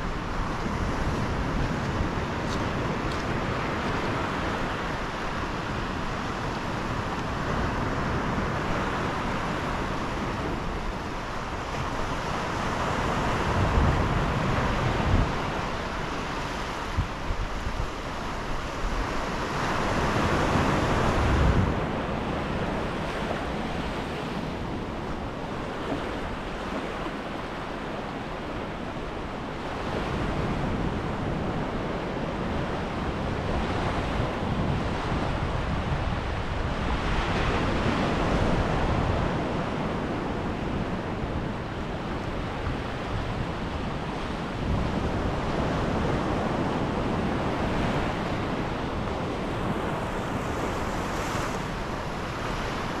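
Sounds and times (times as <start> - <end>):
surf breaking on a beach: 0.0 - 53.0
wind rumbling on microphone: 0.0 - 53.0.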